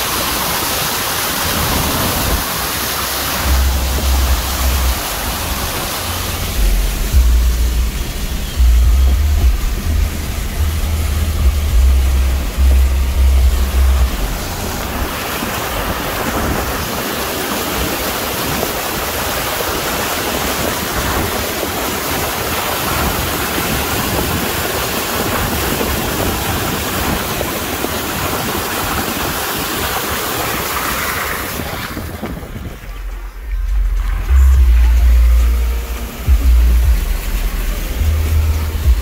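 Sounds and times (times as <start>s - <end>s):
tyres splashing through water: 0.0s - 39.0s.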